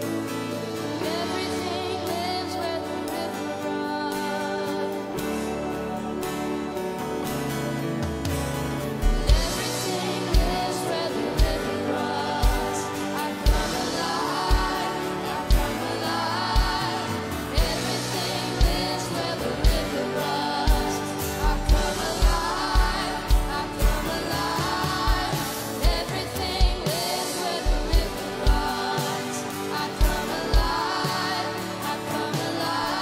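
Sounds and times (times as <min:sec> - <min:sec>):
backing vocalists: 0:00.0 - 0:06.1, 0:09.0 - 0:33.0
woman singing lead: 0:00.0 - 0:06.5, 0:09.0 - 0:33.0
worship band playing: 0:00.0 - 0:33.0.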